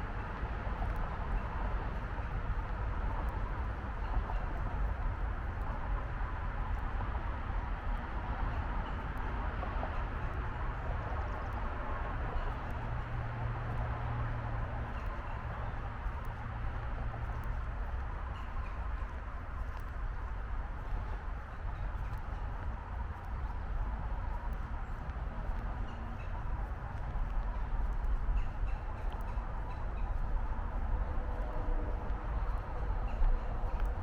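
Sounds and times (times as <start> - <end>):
distant highway traffic rumble: 0.0 - 34.0.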